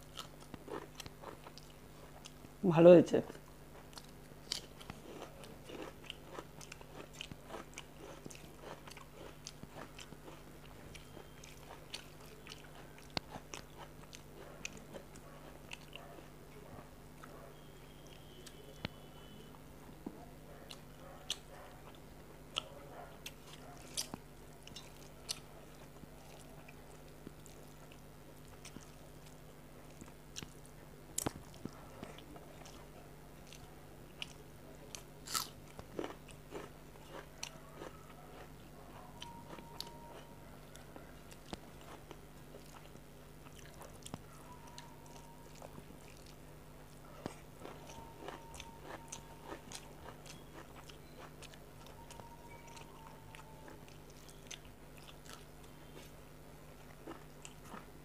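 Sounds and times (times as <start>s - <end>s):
chewing and mouth sounds: 0.0s - 2.6s, 3.3s - 17.4s, 20.1s - 58.0s
faint steady hum: 0.0s - 58.0s.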